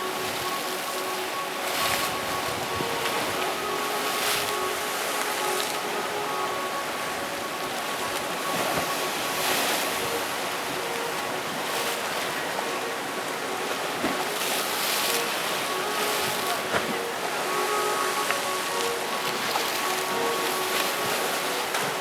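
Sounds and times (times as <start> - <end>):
rough sea waves crashing: 0.0 - 22.0.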